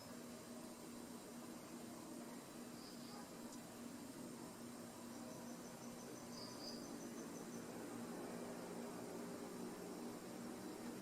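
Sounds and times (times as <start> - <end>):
high insect chirp: 0.0 - 11.0
steady hiss: 0.0 - 11.0.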